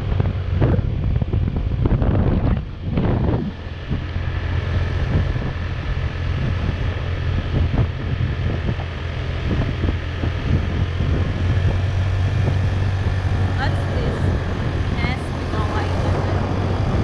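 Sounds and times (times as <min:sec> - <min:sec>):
motorbike engine running: 0:00.0 - 0:17.0
wind rushing over microphone: 0:00.0 - 0:17.0.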